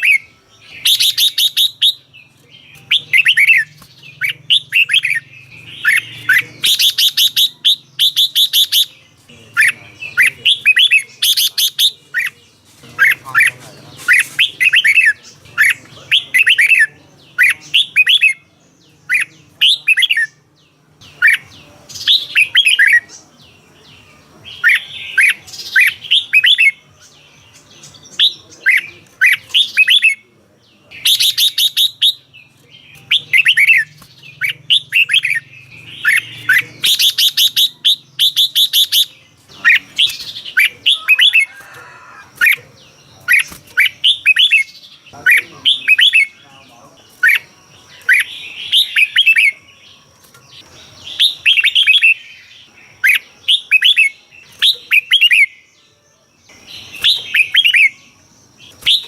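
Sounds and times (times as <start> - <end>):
bird singing whistled notes: 0.0 - 12.4, 13.0 - 59.0.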